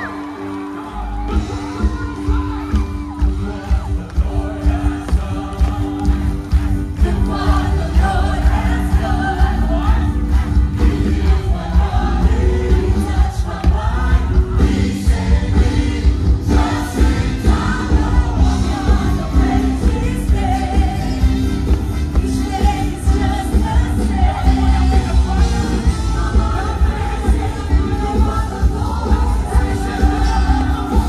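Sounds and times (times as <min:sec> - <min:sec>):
group of voices singing: 0:00.0 - 0:31.0.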